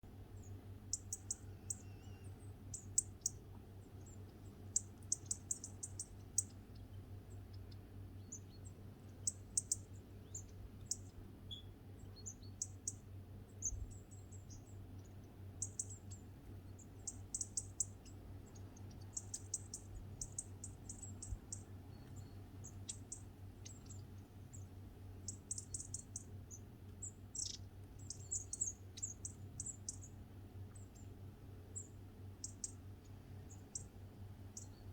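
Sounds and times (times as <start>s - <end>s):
faint low hum: 0.0s - 34.9s
small birds chirping: 0.0s - 34.9s.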